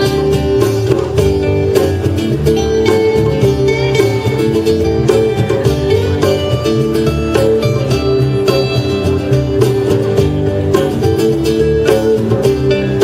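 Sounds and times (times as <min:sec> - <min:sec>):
live band instrumental: 0:00.0 - 0:13.0.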